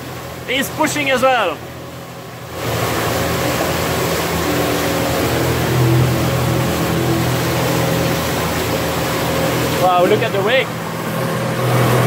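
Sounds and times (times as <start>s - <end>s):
low motor hum: 0.0s - 12.0s
water splashing: 0.0s - 12.0s.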